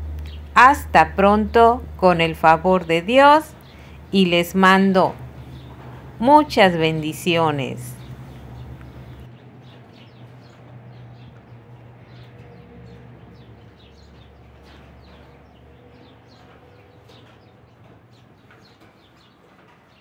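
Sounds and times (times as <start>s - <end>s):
steady low hum: 0.0s - 18.6s
small birds chirping: 0.0s - 20.0s.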